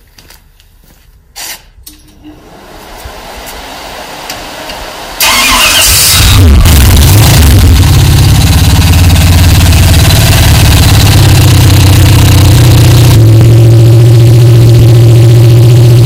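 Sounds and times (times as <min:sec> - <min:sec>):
car engine starting and idling: 0:02.4 - 0:16.0.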